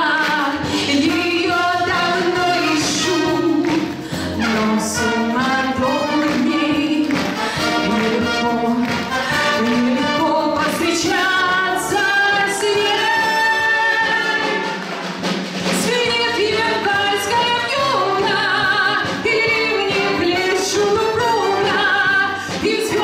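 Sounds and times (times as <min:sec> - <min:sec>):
woman singing into a microphone: 0:00.0 - 0:14.7, 0:15.8 - 0:23.0
brass band playing: 0:00.0 - 0:23.0.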